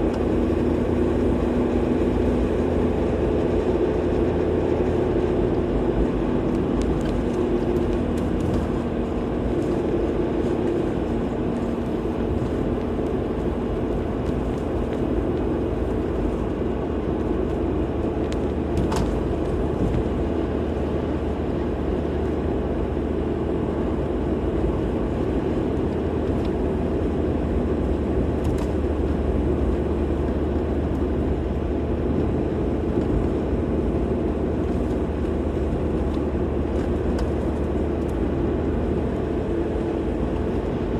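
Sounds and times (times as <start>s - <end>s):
car road noise: 0.0s - 40.9s.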